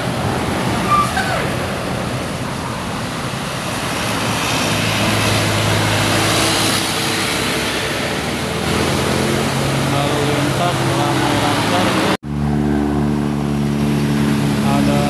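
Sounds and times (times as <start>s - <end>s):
heavy diesel engine pulling uphill: 0.0s - 15.0s
tyre and road noise: 0.0s - 15.0s.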